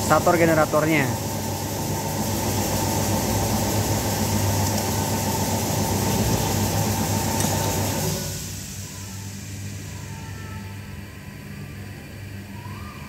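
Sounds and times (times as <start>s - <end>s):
machine humming and rumbling: 0.0s - 13.0s.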